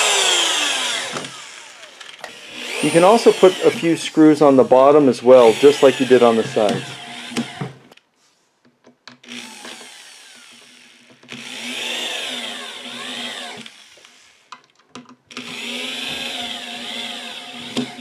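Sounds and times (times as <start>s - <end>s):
cordless drill driving screws: 0.0s - 8.0s, 9.2s - 14.5s, 15.3s - 18.0s.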